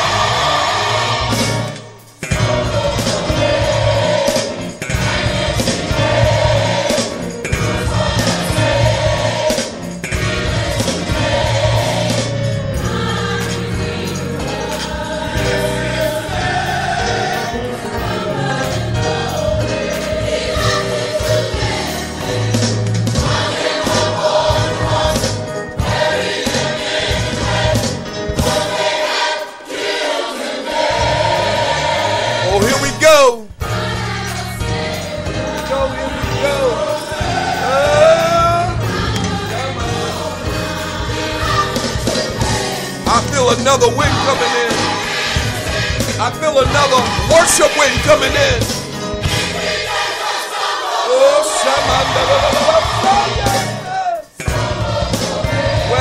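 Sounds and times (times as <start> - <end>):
choir singing gospel music: 0.0 - 56.0
instrumental accompaniment with beat: 0.0 - 56.0.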